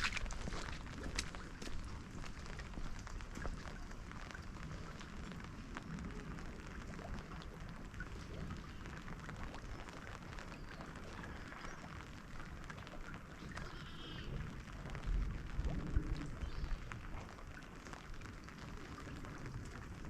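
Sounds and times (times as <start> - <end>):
rain drops ticking on hard surfaces: 0.0 - 20.0.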